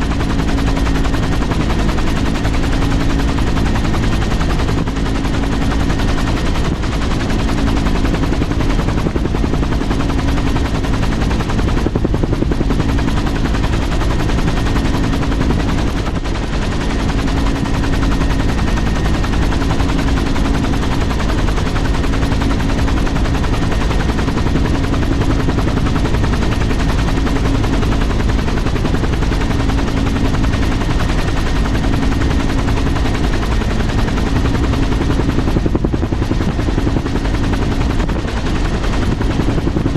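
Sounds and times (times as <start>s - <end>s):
aircraft engine pulsing drone: 0.0s - 39.9s.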